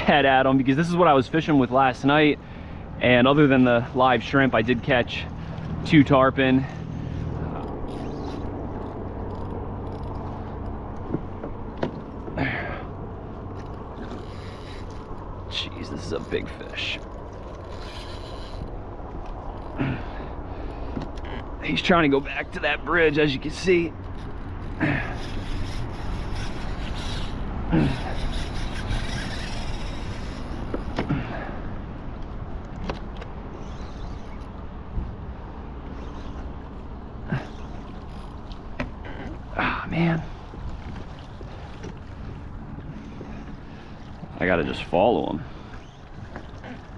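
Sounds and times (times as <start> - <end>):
fishing rod and reel creaking: 0.0 - 46.9
wind and water noise: 0.0 - 46.9.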